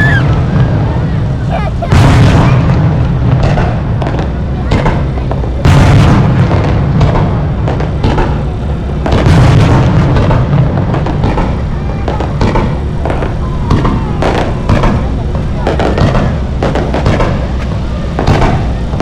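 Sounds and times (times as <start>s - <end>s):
fireworks bursts and booms: 0.0s - 19.0s
heavy low rumble: 0.0s - 19.0s.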